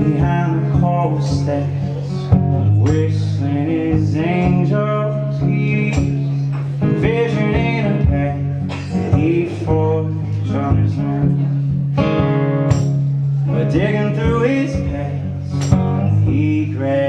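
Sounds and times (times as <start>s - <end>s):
man singing folk song: 0.0s - 17.0s
strummed acoustic guitar: 0.0s - 17.0s.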